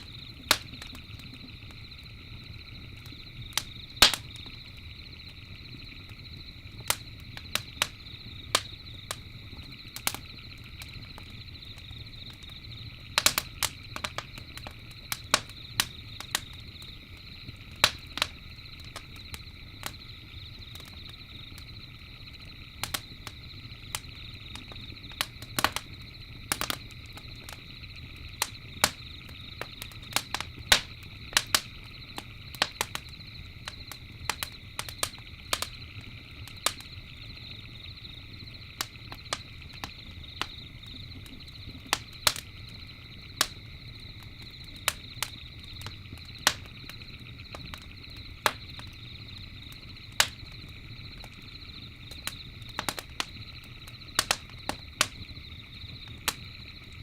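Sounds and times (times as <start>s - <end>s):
campfire crackling and popping: 0.0s - 57.0s
night insects trilling: 0.0s - 57.0s.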